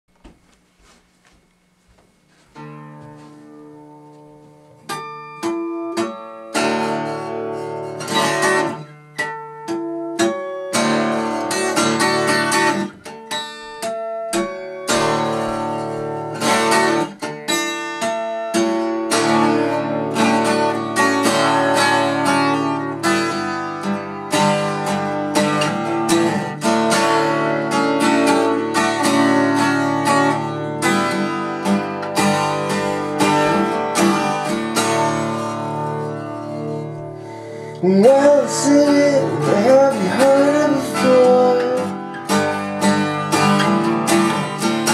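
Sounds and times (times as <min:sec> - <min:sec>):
acoustic guitar strumming chords: 0:01.6 - 0:44.9.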